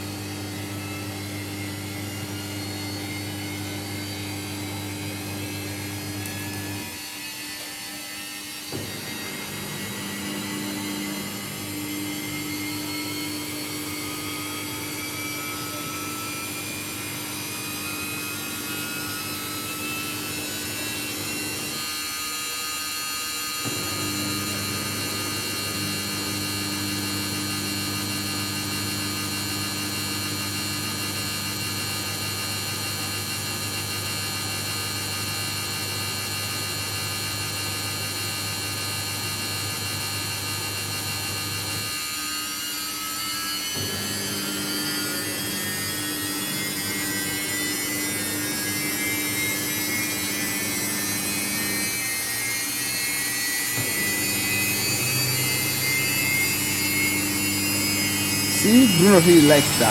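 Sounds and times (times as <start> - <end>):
washing machine motor whine: 0.0 - 59.9.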